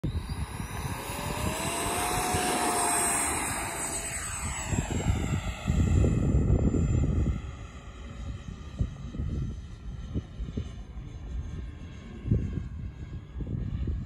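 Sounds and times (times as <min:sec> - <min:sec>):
model jet fan whining: 0:00.0 - 0:14.0
wind rumbling on microphone: 0:00.0 - 0:14.0.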